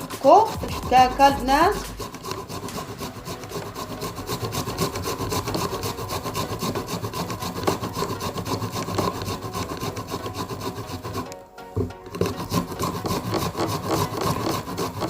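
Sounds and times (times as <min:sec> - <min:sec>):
ginger grated on a hand grater: 0:00.0 - 0:15.0.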